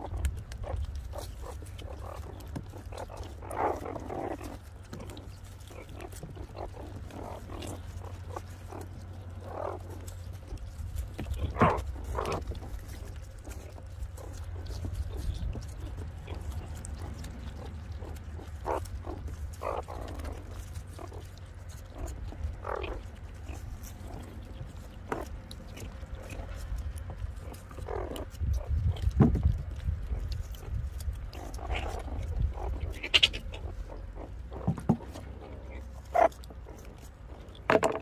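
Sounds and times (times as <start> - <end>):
meerkats calling: 0.0 - 38.0.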